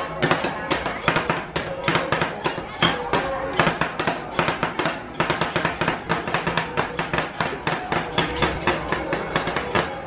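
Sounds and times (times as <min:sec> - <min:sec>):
metal spatulas chopping on steel: 0:00.0 - 0:10.0.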